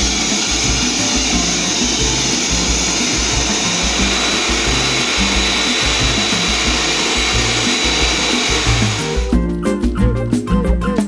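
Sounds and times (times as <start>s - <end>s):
pet dryer blowing air: 0.0s - 9.4s
music with bass line: 0.0s - 11.0s.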